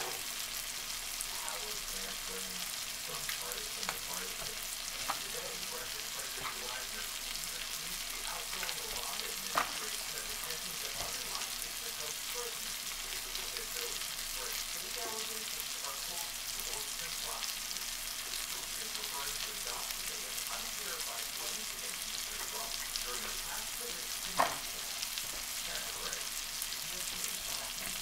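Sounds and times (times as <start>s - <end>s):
food sizzling in butter: 0.0s - 28.0s.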